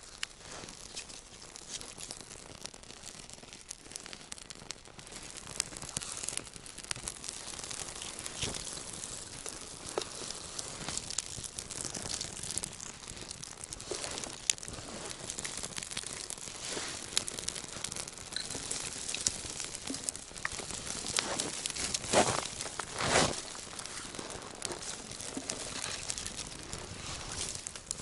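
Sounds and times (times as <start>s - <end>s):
dry twigs rustling and crackling: 0.0s - 28.0s
kindling fire snapping: 0.0s - 28.0s.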